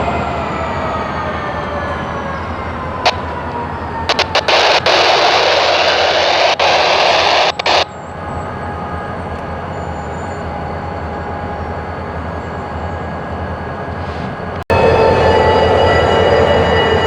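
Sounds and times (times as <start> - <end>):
low rumble of a train: 0.0 - 6.8, 7.7 - 17.0.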